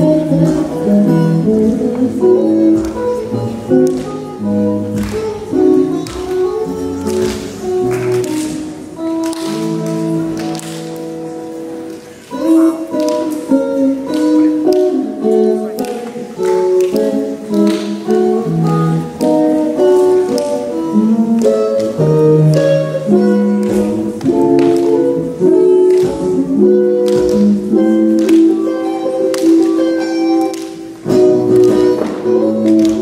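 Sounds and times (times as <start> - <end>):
electric guitar playing: 0.0 - 33.0.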